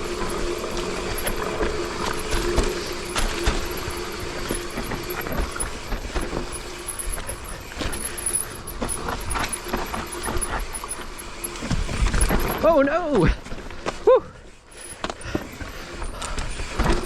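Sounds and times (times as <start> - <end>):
tyres rumbling over dirt: 0.0 - 14.1
bike knocks and rattles: 0.2 - 14.1, 14.8 - 17.0.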